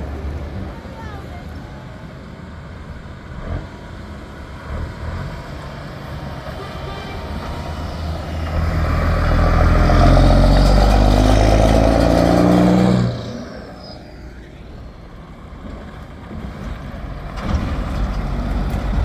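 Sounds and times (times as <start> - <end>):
truck diesel engine passing: 0.0 - 19.0.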